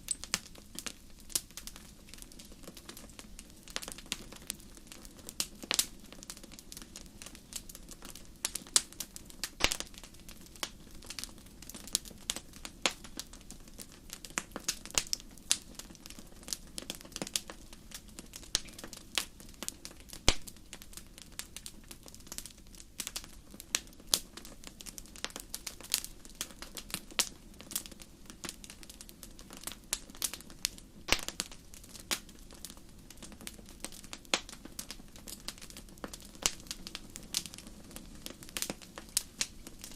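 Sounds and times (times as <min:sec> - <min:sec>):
campfire pops and snaps: 0:00.0 - 0:39.9
low rush of burning wood: 0:00.0 - 0:39.9.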